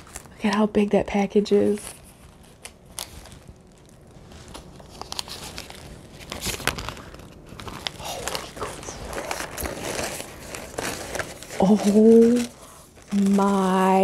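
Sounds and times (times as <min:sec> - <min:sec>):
packing paper rustling and crinkling: 0:00.0 - 0:00.7, 0:01.5 - 0:14.0.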